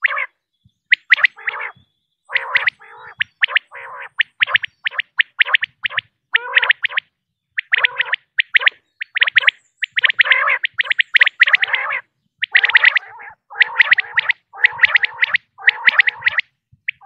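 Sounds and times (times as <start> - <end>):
quail chirping calls: 0.0 - 17.0.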